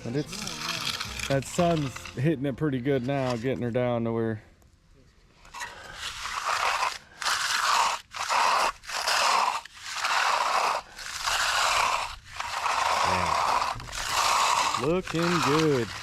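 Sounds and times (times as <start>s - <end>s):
tool scraping concrete: 0.0s - 3.8s, 5.4s - 16.0s.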